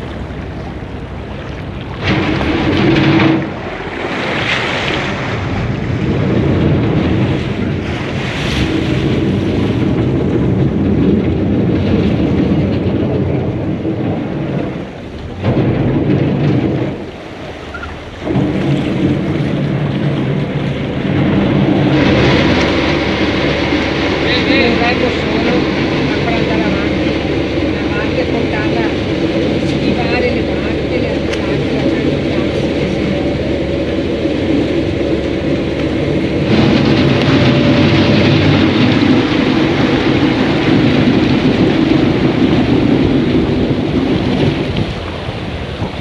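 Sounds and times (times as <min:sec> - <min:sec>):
boat engine drone: 0:00.0 - 0:46.0
water rushing past hull: 0:00.0 - 0:46.0
wind buffeting microphone: 0:00.0 - 0:46.0.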